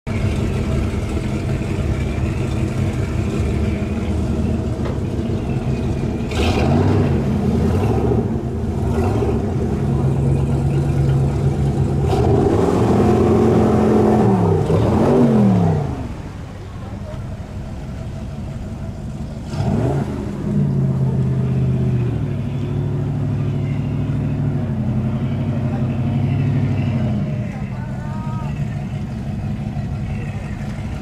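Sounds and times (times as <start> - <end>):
speed boat engine revving: 0.1 - 31.0.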